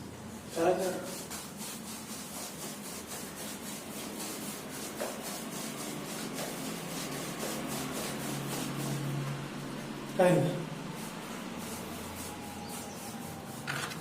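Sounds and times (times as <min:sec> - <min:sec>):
hand rubbing over concrete: 0:00.6 - 0:14.0.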